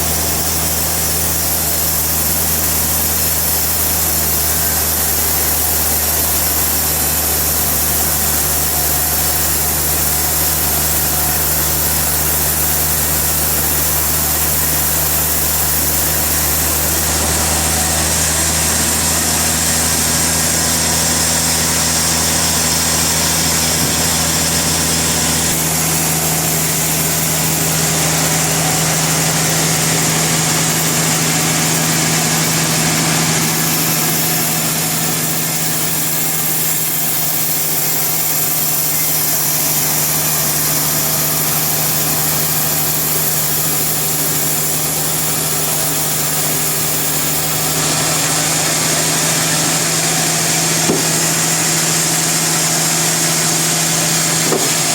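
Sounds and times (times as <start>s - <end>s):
sawmill machinery hum: 0.0s - 54.9s.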